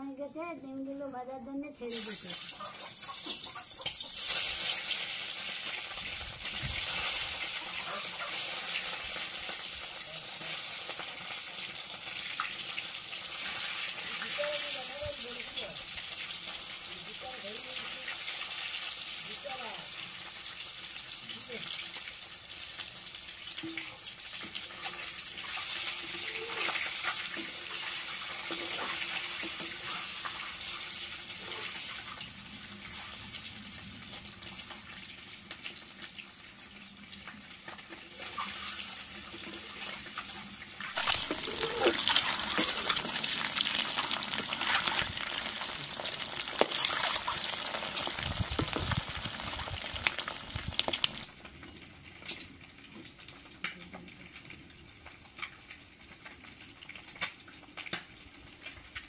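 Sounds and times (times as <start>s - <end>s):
eggs sizzling and crackling in oil: 1.8s - 59.0s.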